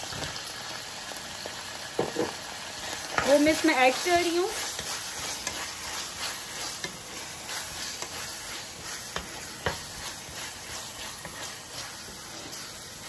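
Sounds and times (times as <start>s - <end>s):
meat sizzling in a frying pan: 0.0s - 13.0s
wooden spatula scraping pan: 2.1s - 13.0s.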